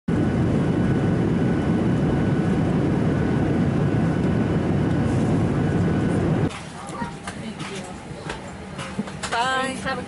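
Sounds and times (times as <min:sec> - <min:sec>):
airliner cabin rumble: 0:00.1 - 0:09.8.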